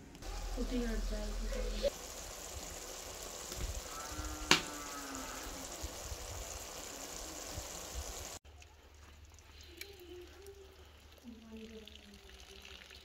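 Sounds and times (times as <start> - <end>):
curry bubbling in a pot: 0.3 - 13.0.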